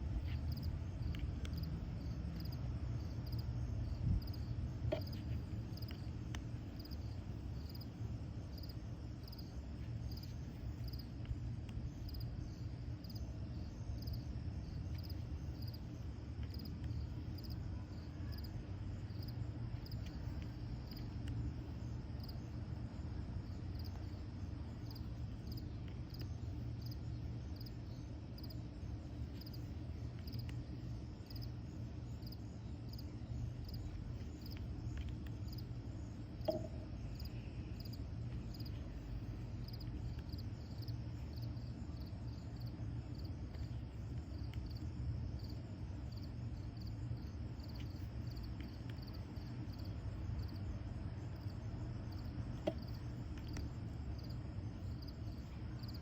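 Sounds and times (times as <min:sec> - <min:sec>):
cricket chirping: 0:00.0 - 0:56.0
low constant hum: 0:00.0 - 0:56.0.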